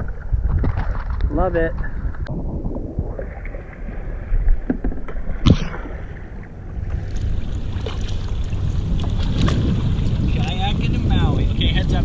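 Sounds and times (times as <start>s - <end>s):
water sloshing: 0.0s - 10.7s
wind on microphone: 0.0s - 12.0s.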